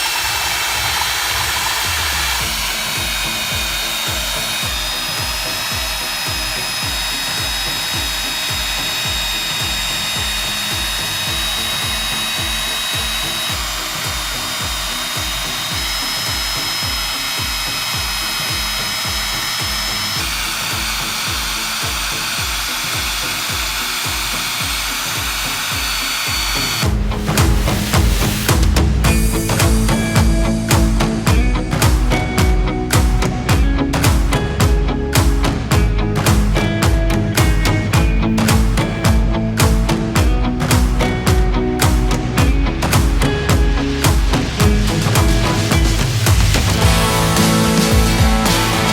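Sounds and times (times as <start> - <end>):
core drill cutting concrete: 0.0 - 48.9
music beat: 0.0 - 48.9.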